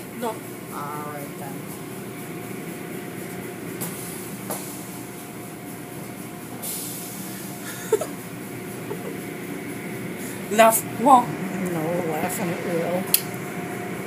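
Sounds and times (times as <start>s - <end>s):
car wash machinery hum: 0.0s - 14.0s.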